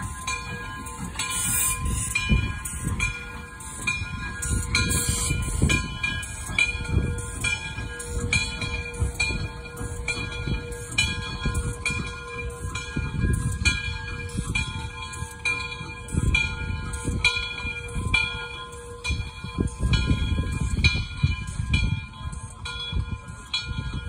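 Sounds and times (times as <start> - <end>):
bell ringing: 0.0 - 24.0
steam locomotive rumbling: 0.0 - 24.0.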